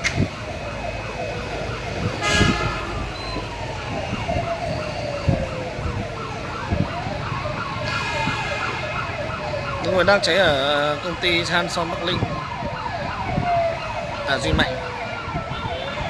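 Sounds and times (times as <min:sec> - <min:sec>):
sirens wailing: 0:00.0 - 0:16.0.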